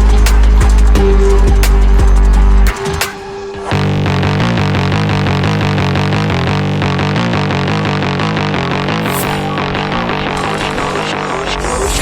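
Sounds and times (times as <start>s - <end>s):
heavy bass music: 0.0s - 12.0s.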